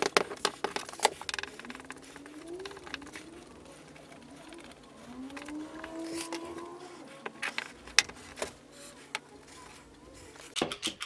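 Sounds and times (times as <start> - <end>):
wooden blocks clicking and knocking: 0.0 - 11.0.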